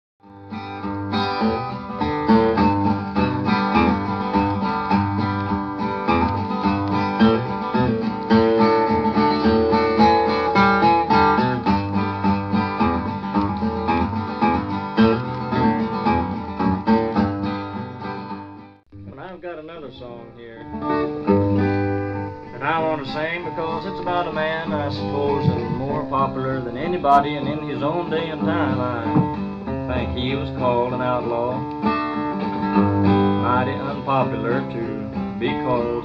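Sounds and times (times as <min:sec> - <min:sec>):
acoustic guitar plucked notes: 0:00.2 - 0:36.0.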